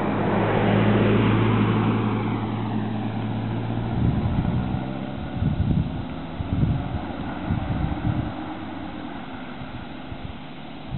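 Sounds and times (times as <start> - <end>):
engine hum: 0.0 - 10.9
vehicle passing by: 0.0 - 10.9
wind buffeting microphone: 0.0 - 10.9.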